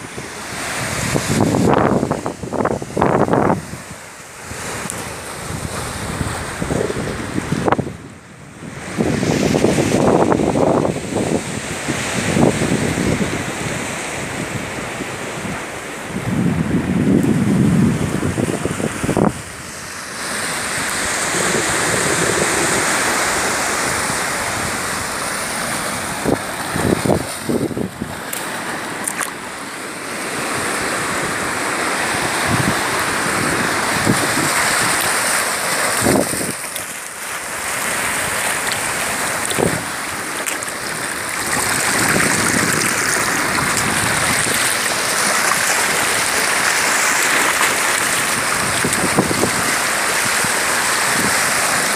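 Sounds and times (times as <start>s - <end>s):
sea surf on rocky shore: 0.0s - 51.9s
wind on microphone: 0.0s - 51.9s.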